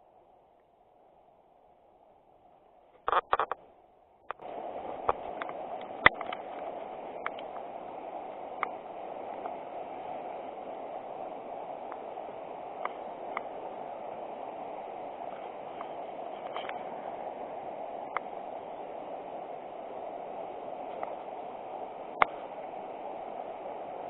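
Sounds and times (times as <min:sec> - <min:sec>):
river water running: 0:00.0 - 0:24.0.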